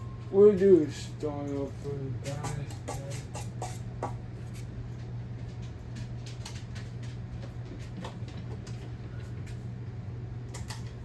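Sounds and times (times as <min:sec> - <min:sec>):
ceiling fan motor humming: 0:00.0 - 0:11.0.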